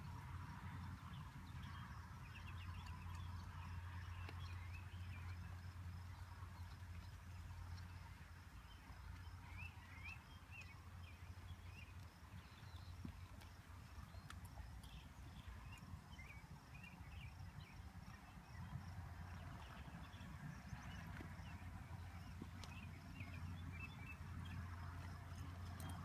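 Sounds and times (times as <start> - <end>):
horse hoofbeats on soft dirt: 0.0 - 26.0
low steady rumble: 0.0 - 26.0.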